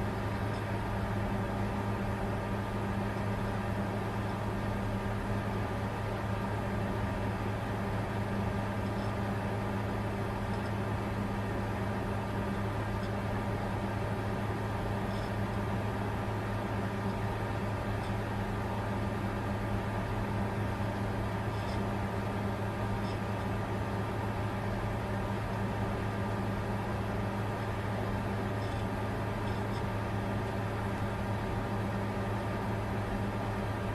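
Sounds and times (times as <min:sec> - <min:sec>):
cooling fans whirring: 0:00.0 - 0:33.9.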